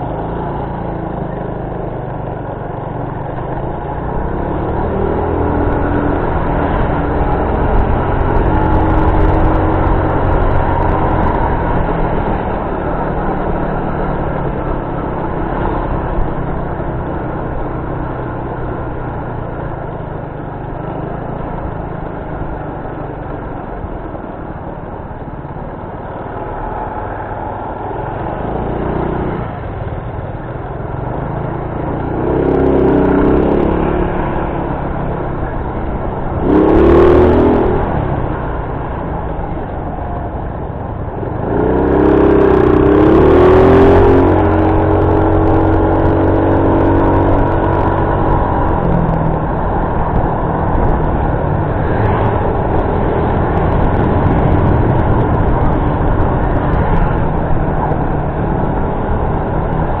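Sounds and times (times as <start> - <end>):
road noise: 0.0 - 60.0
vehicle engine running: 0.0 - 60.0.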